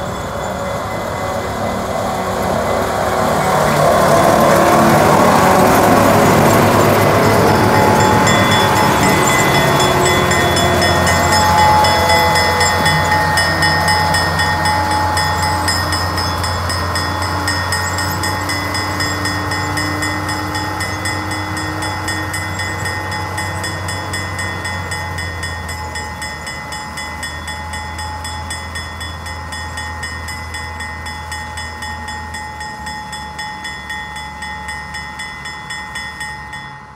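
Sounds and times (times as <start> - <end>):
diesel locomotive engine running: 0.0 - 36.9.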